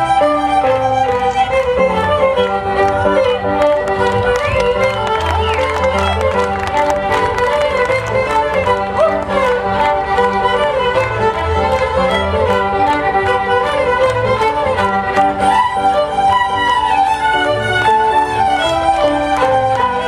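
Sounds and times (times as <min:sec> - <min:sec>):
fiddles playing a tune: 0:00.0 - 0:20.0.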